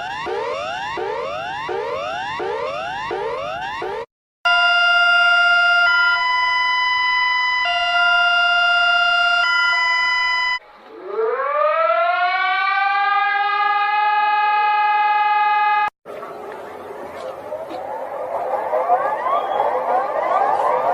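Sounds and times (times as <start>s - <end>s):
siren wailing: 0.0s - 20.9s.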